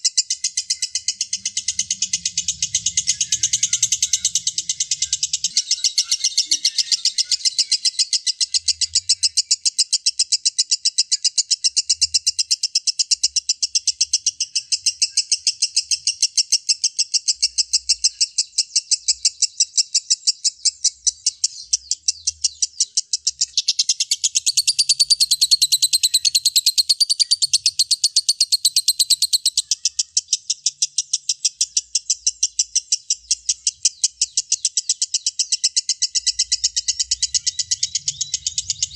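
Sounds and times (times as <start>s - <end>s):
bird shrill chattering song: 0.0s - 38.9s.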